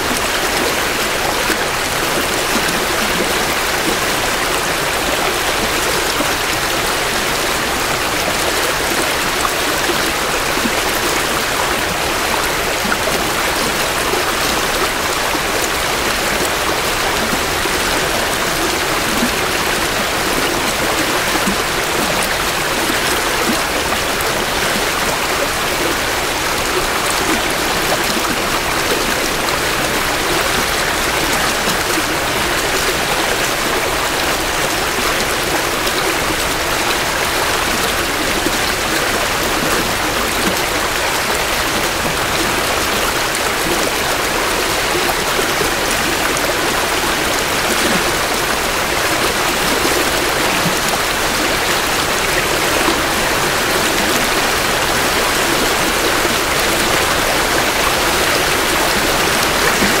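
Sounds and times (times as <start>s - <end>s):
creek water rushing: 0.0s - 60.0s.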